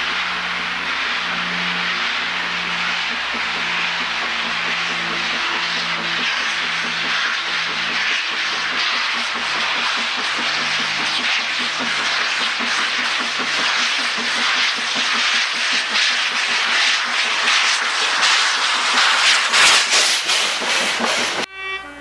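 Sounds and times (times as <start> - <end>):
steam hissing: 0.0 - 21.5
steam locomotive chuffing: 0.0 - 21.5.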